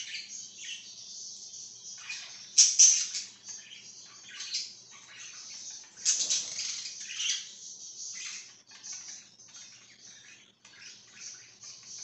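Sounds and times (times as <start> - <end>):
budgerigars chattering and chirping: 0.0 - 12.0.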